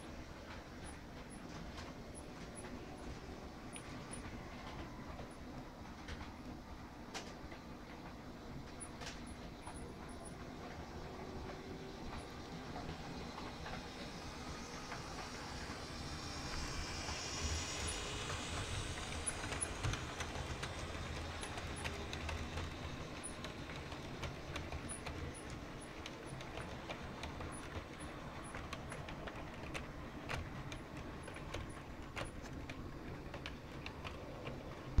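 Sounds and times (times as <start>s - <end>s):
model train rolling and motor hum: 0.0s - 35.0s
wheels clicking on rails: 0.0s - 35.0s.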